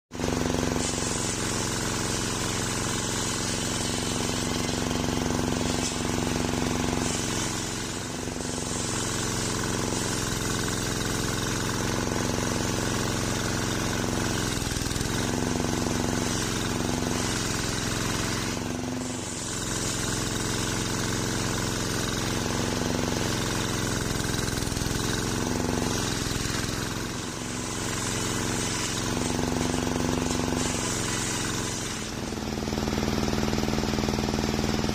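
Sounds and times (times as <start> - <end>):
circular saw cutting log: 0.1 - 34.9.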